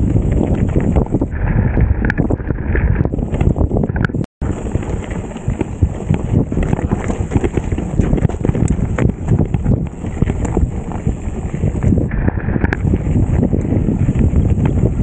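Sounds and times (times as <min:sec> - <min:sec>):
bike rattling over rough trail: 0:00.0 - 0:15.0
wind buffeting microphone: 0:00.0 - 0:15.0.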